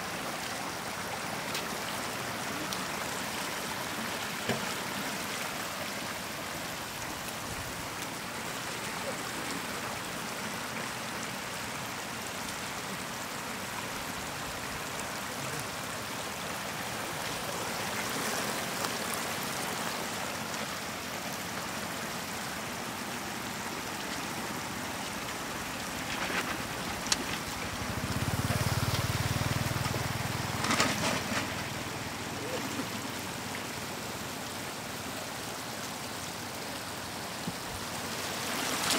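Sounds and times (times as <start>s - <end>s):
floodwater running over ground: 0.0s - 38.9s.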